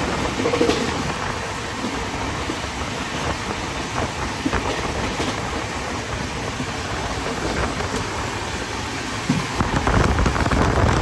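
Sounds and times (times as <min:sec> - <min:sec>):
train wheel and rail rush: 0:00.0 - 0:11.0.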